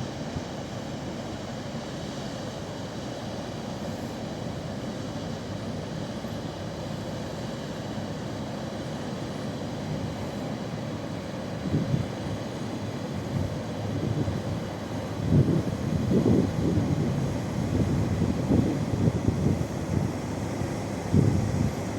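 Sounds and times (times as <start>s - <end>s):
ship engine and water rumble: 0.0s - 21.9s.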